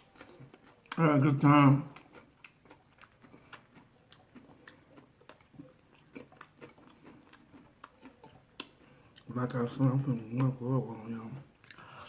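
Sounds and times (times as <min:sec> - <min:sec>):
mouth chewing food: 0:00.0 - 0:12.0.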